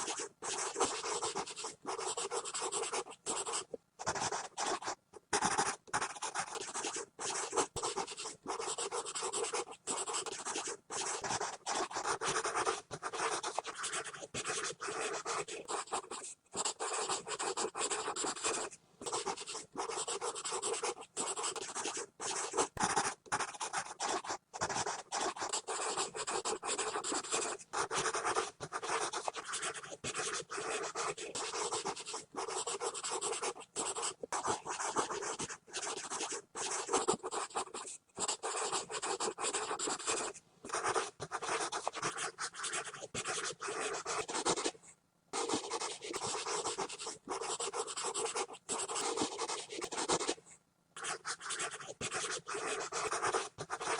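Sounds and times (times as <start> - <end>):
pencil scribbling on paper: 0.0 - 44.8, 45.4 - 50.4, 51.0 - 53.9.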